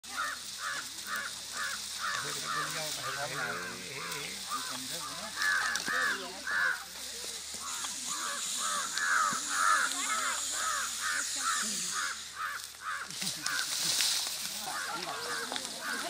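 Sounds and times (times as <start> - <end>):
crow cawing: 0.1 - 16.0.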